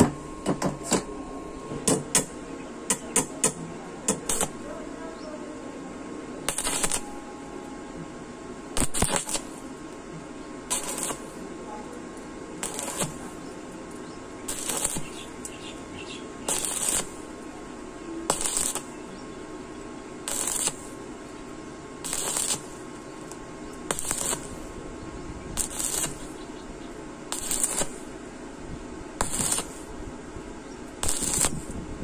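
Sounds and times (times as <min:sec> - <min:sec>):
welding arc sizzling: 0:01.8 - 0:05.2, 0:06.4 - 0:07.3, 0:08.7 - 0:24.9, 0:25.5 - 0:32.0.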